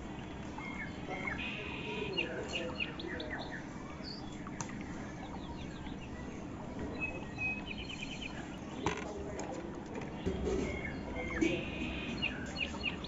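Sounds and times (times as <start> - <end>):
birds chirping: 0.0 - 13.0
steady low background noise: 0.0 - 13.0.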